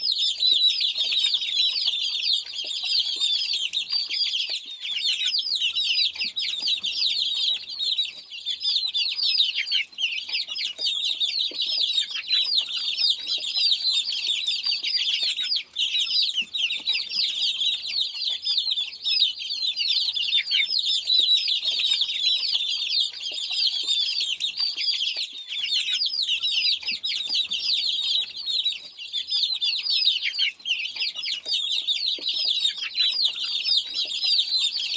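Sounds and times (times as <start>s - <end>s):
chicks peeping: 0.0s - 34.9s.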